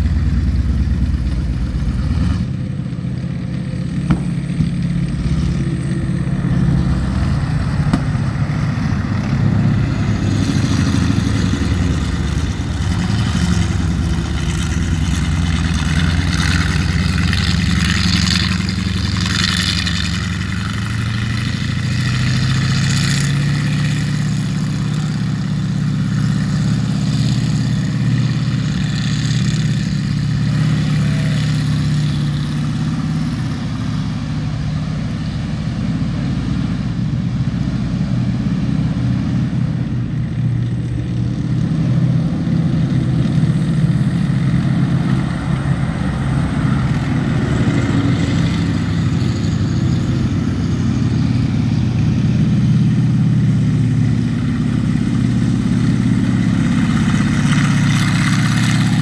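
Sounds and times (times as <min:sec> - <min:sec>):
tank engines rumbling: 0:00.0 - 0:59.0.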